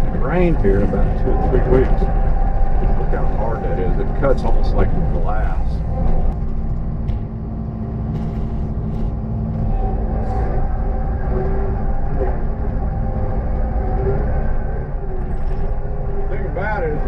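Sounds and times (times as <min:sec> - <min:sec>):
diesel engine at high throttle: 0:00.0 - 0:17.0.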